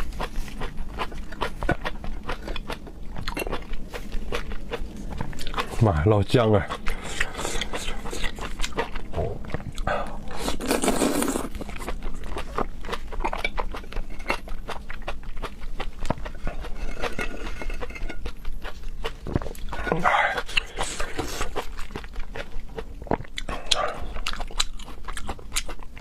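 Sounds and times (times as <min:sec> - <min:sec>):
wet chewing and lip-smacking: 0:00.0 - 0:05.8, 0:06.6 - 0:26.0.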